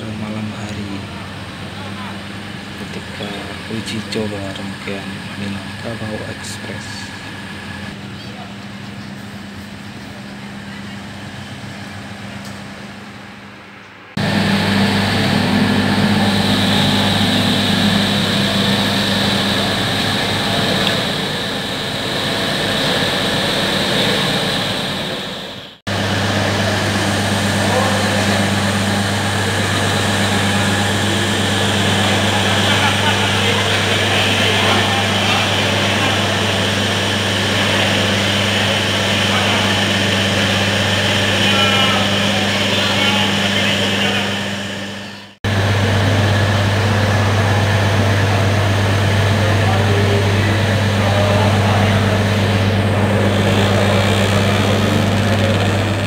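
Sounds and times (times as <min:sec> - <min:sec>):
diesel train engines droning: 0:00.0 - 0:56.0.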